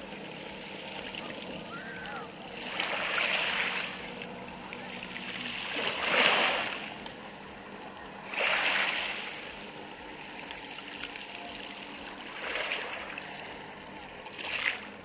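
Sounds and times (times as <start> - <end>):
waves washing over pebbles: 0.1 - 7.1, 8.2 - 15.0.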